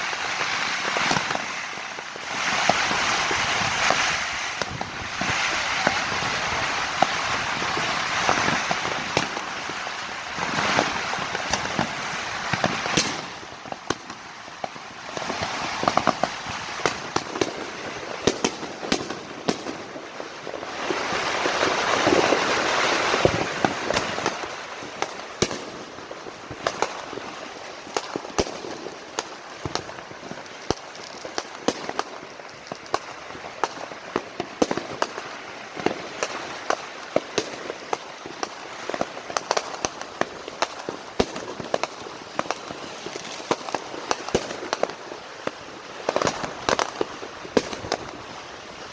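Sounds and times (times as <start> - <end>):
firecrackers crackling: 0.0 - 48.9
firework bangs: 0.0 - 48.9.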